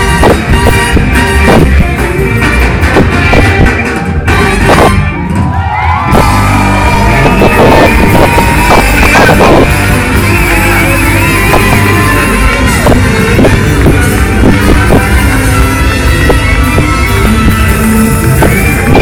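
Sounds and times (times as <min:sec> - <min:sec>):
live funk band playing: 0:00.0 - 0:19.0.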